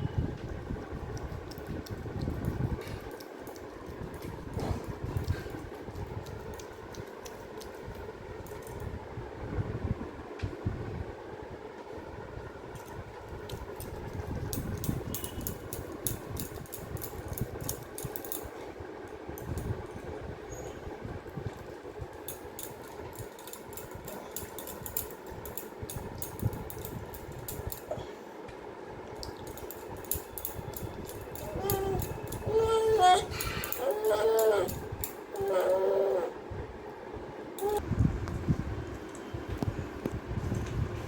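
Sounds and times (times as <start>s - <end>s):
room fan humming: 0.0s - 41.0s.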